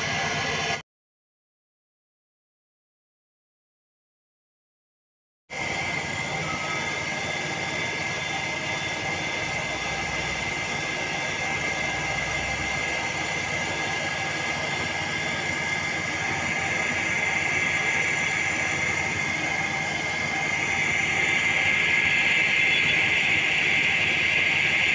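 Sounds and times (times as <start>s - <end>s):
concrete saw engine running: 0.0s - 0.8s, 5.5s - 24.9s.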